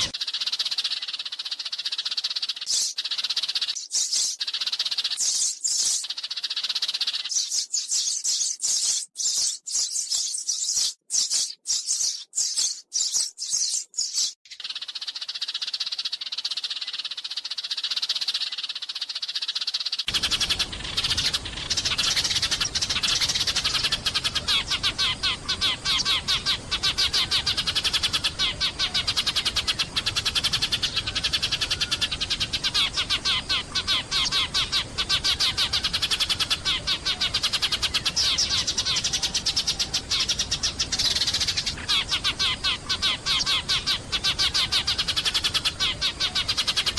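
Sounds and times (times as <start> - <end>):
sparrows twittering: 0.0 - 46.9.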